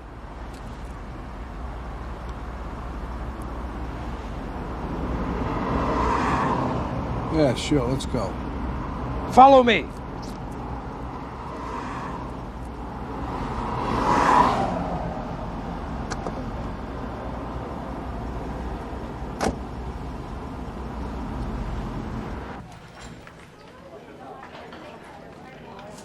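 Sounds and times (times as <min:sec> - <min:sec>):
engine and road rumble: 0:00.0 - 0:23.6
vehicle passing: 0:00.0 - 0:26.0.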